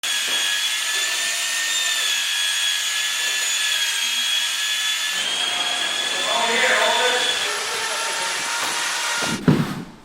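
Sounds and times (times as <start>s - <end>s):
power tool whining: 0.0s - 9.4s.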